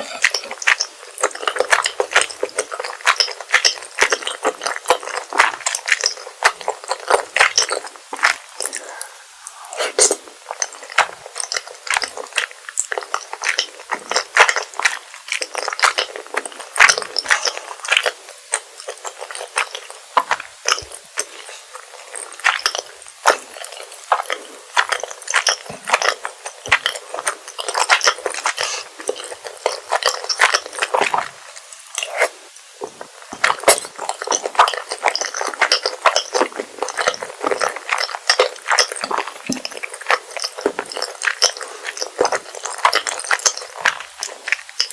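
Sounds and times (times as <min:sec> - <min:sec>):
wet chewing and squishing: 0:00.0 - 0:44.9.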